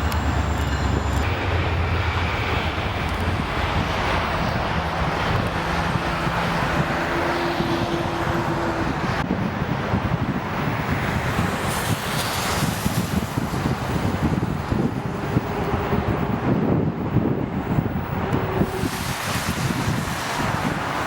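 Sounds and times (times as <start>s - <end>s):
jet engines hum: 0.0s - 21.0s
wind buffeting microphone: 0.0s - 21.0s.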